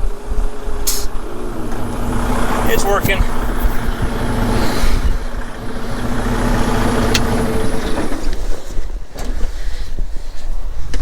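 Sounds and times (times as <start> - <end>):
steady whine: 0.0 - 9.0
diesel engine rumbling: 0.0 - 10.6.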